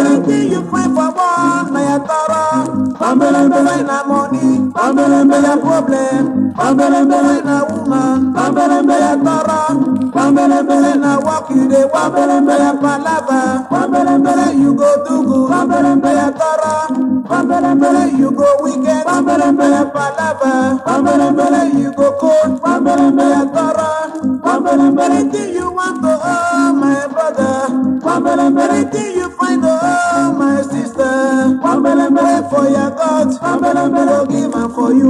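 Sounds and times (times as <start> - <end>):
band music with harmony vocals: 0.0 - 35.0.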